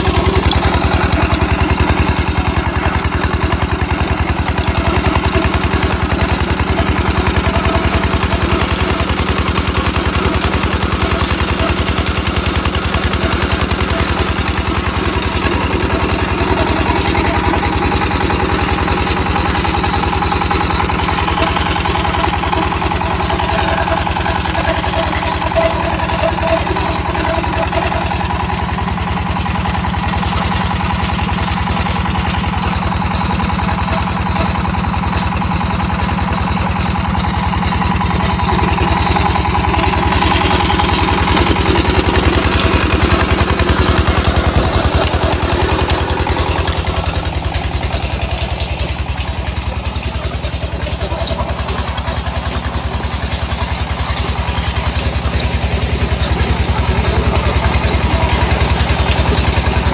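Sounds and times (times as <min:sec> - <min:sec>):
diesel engine thumping: 0:00.0 - 0:59.9.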